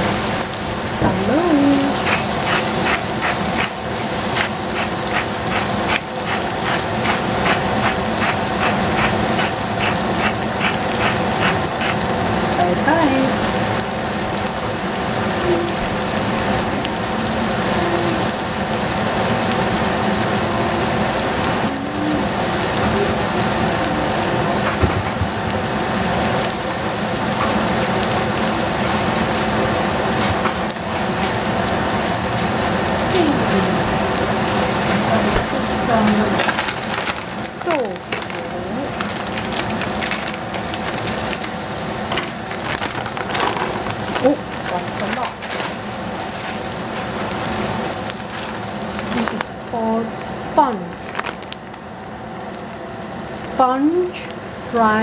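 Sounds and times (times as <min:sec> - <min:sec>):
vegetables sizzling in a pot: 0:00.0 - 0:55.0.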